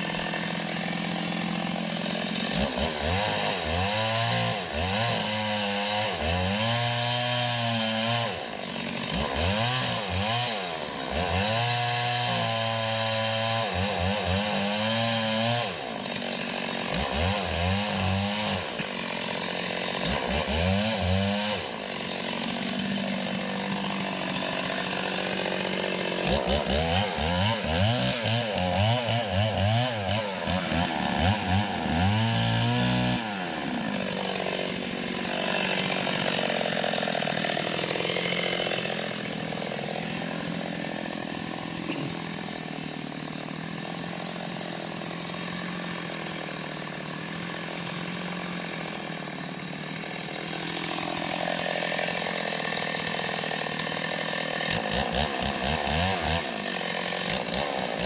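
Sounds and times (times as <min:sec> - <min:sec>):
mini chainsaw engine running: 0:00.0 - 0:58.0.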